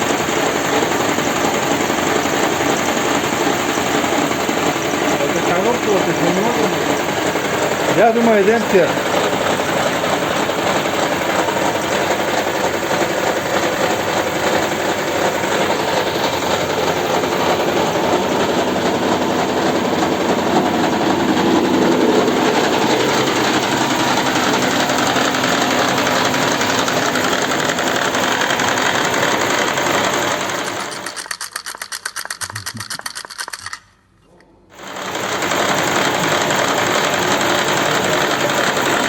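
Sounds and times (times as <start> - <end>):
car engine rattling and knocking: 0.0 - 33.5, 34.8 - 39.0.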